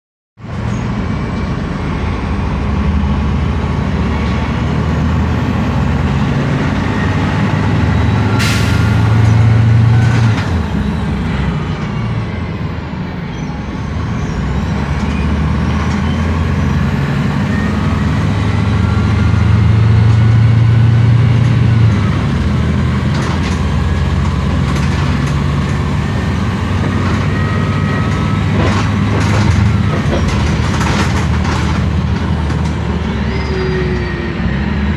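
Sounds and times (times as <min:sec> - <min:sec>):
diesel engine drone: 0:00.4 - 0:34.9.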